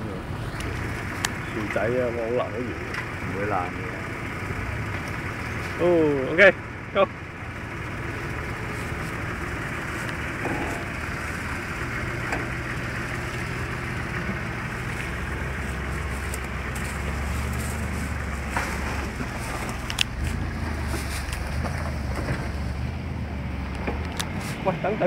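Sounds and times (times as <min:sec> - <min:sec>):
vehicle engine running at low speed: 0:00.0 - 0:25.0.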